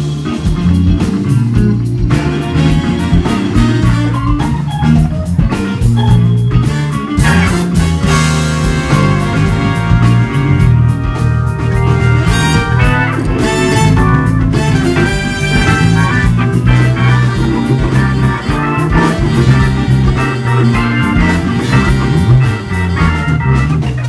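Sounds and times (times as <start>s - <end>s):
drum kit: 0.0s - 24.0s
electric bass: 0.0s - 24.0s
guitar: 0.0s - 24.0s
organ: 0.0s - 24.0s.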